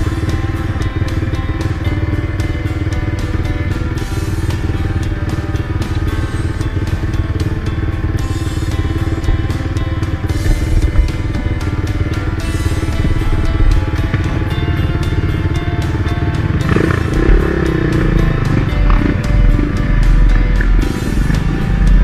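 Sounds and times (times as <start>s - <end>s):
dirt bike engine running: 0.0s - 22.0s.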